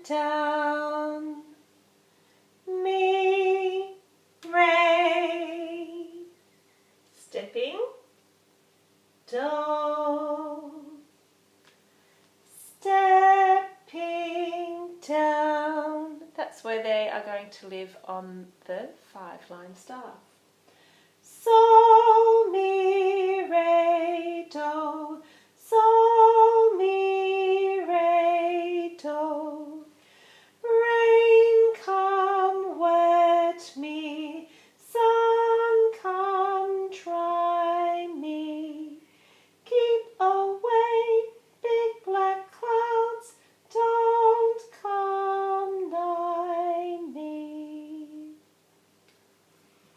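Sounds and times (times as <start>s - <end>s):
woman singing unaccompanied: 0.0s - 1.6s, 2.6s - 6.4s, 9.2s - 11.1s, 12.5s - 20.3s, 21.2s - 30.0s, 30.6s - 48.5s.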